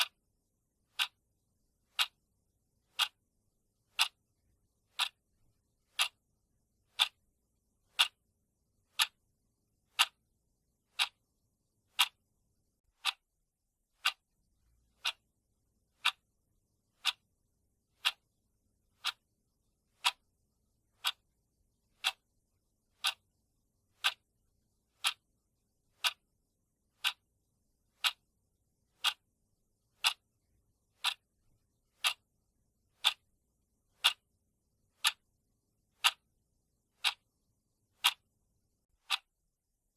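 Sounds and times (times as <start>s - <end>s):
clock ticking: 0.0s - 0.2s, 0.9s - 1.2s, 1.9s - 2.2s, 2.8s - 9.3s, 9.9s - 12.2s, 12.8s - 21.3s, 21.9s - 24.3s, 24.9s - 26.3s, 26.9s - 27.3s, 27.9s - 34.3s, 34.9s - 36.3s, 36.9s - 38.4s, 39.0s - 39.4s.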